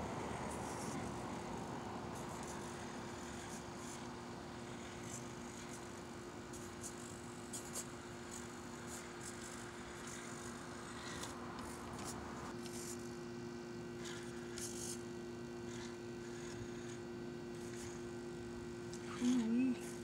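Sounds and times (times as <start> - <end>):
toy car motor hum and whine: 2.2 - 13.1, 13.9 - 18.2, 18.9 - 20.0.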